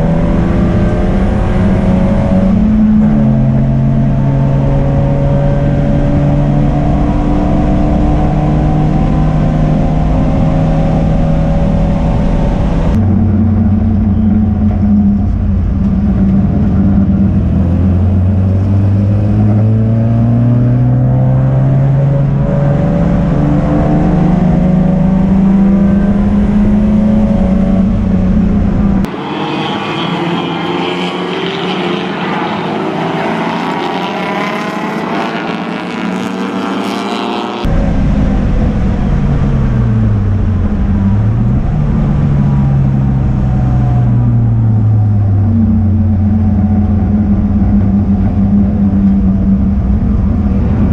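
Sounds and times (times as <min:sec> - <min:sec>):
wind noise: 0:00.0 - 0:36.6, 0:37.2 - 0:50.9
race car engine accelerating: 0:00.0 - 0:50.9.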